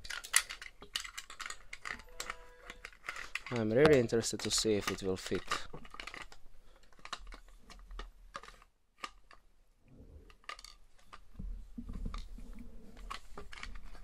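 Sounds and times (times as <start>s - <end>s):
plastic parts clicking: 0.0s - 9.5s, 10.2s - 14.0s.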